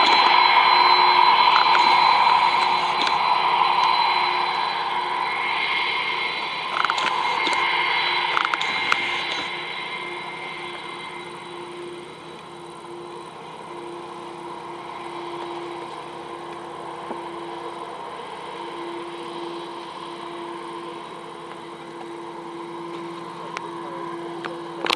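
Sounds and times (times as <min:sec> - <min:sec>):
jet engines roaring: 0:00.0 - 0:24.9.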